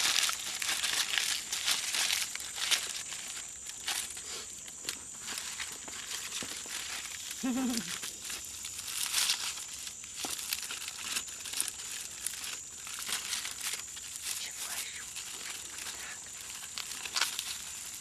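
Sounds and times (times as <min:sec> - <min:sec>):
palm leaf tearing and crinkling: 0:00.0 - 0:18.0.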